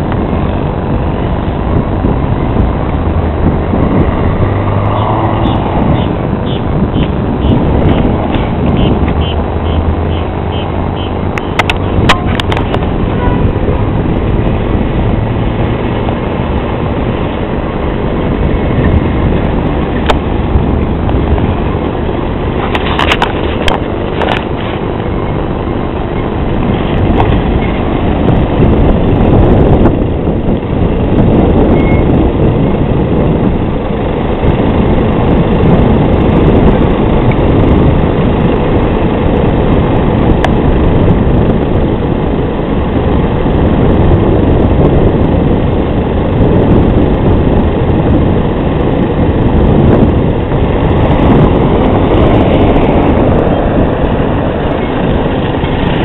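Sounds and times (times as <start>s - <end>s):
distant airliner engines: 0.0s - 56.0s.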